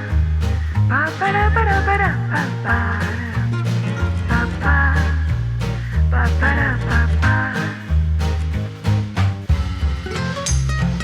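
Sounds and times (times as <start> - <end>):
swing tune with bass and guitar: 0.0 - 11.0.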